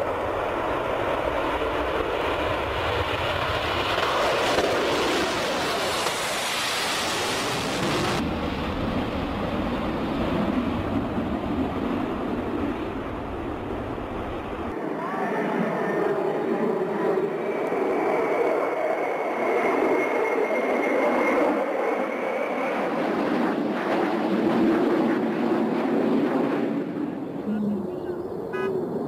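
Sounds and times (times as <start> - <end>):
jet engine roar: 0.0 - 29.0.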